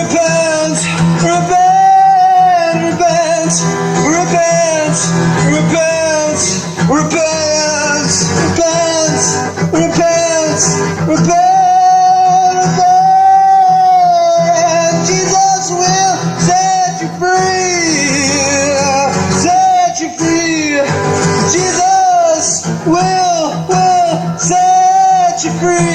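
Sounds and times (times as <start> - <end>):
person singing long notes: 0.0 - 20.9
instrumental backing: 0.0 - 25.9.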